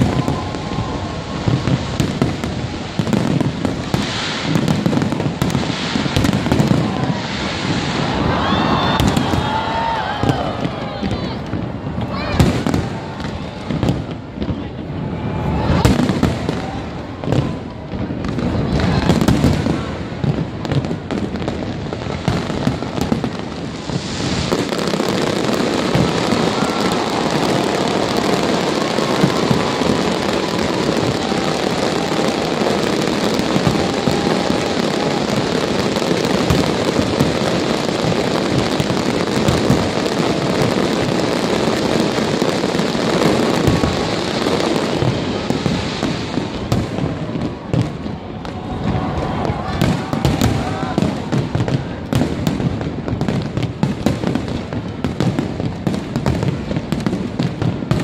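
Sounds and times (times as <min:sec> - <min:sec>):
fireworks bangs: 0:00.0 - 0:58.0
fireworks crackling: 0:00.0 - 0:58.0.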